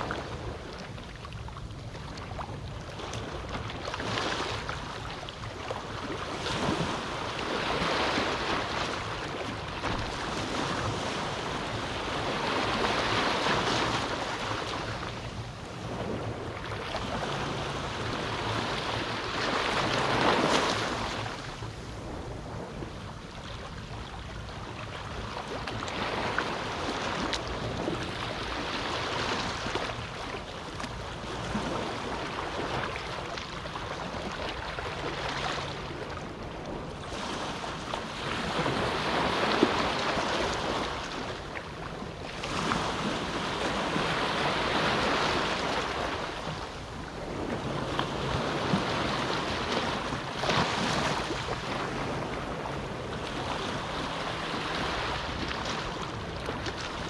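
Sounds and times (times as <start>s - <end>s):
small waves washing onto beach: 0.0s - 57.0s.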